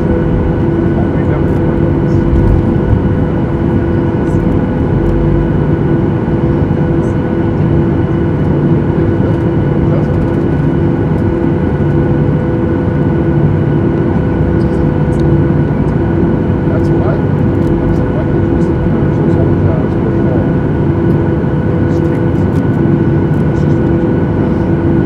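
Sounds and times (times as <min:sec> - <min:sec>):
jet engines humming at low power: 0:00.0 - 0:25.0.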